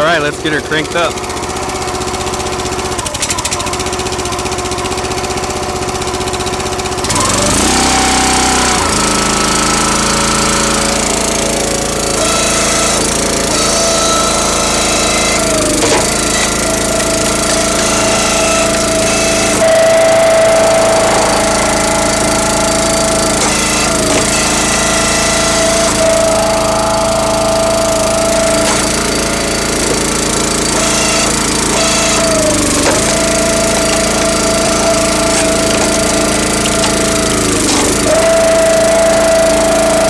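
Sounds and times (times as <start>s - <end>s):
log splitter engine running: 0.0s - 40.0s.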